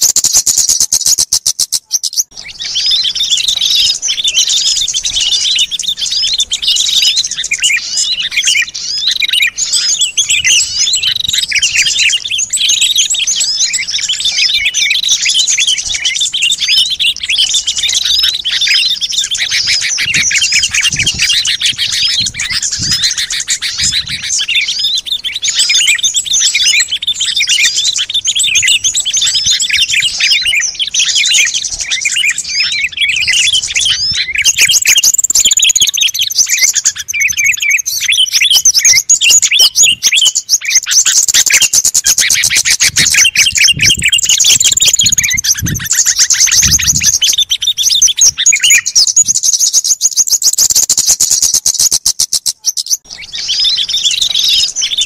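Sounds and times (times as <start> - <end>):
sliding whistled bird calls: 0.0 - 55.0
songbirds chirping and twittering: 0.0 - 55.0.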